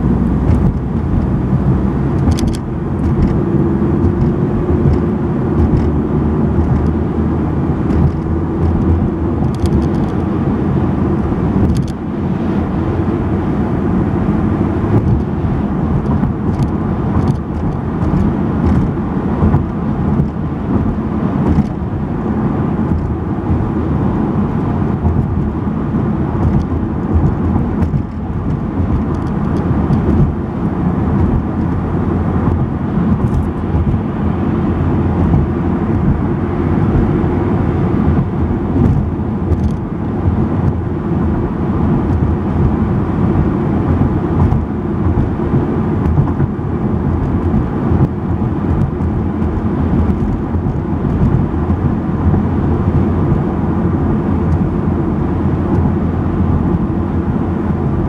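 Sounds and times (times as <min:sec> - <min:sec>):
car driving interior rumble: 0:00.0 - 0:58.0.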